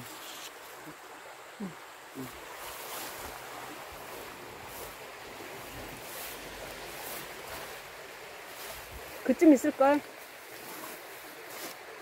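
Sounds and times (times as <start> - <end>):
weeds and grass rustling: 1.6 - 12.0.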